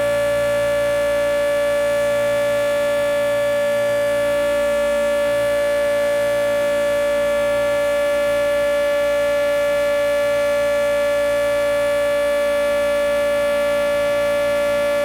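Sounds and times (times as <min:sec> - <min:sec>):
two-tone warning siren: 0:00.0 - 0:15.0.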